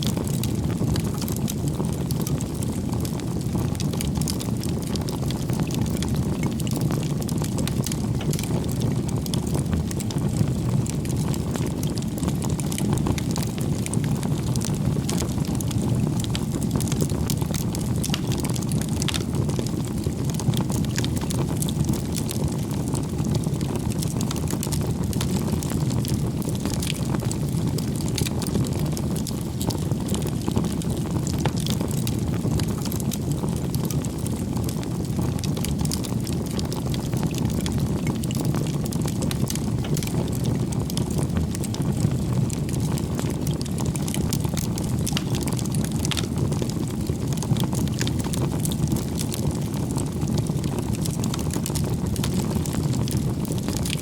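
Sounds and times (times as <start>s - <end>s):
firewood crackling and popping: 0.0s - 54.0s
bonfire flames rushing: 0.1s - 54.0s.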